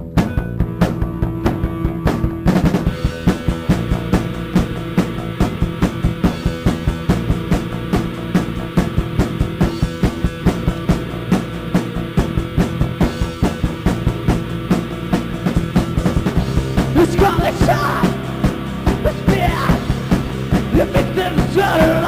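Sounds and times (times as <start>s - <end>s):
drum kit fast beat: 0.0s - 22.0s
rock band instrumental: 0.0s - 22.0s.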